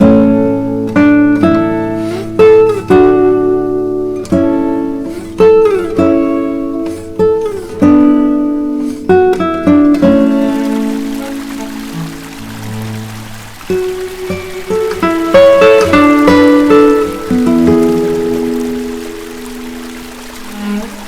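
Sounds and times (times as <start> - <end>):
acoustic guitar music: 0.0 - 21.0
running water hissing: 0.1 - 21.0.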